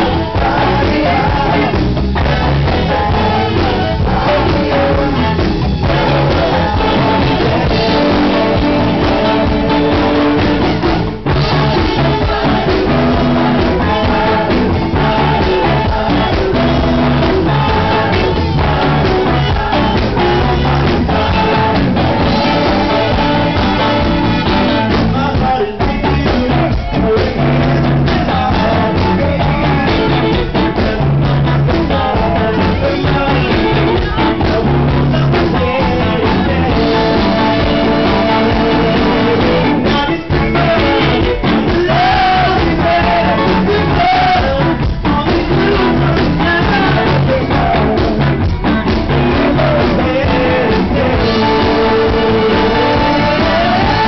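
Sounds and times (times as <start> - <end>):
group of singers: 0.0 - 54.0
live band with saxophones and guitar: 0.0 - 54.0.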